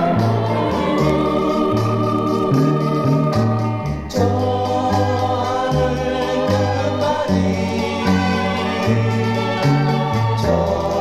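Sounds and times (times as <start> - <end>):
group vocal harmony: 0.0 - 11.0
pop song from a vinyl record: 0.0 - 11.0.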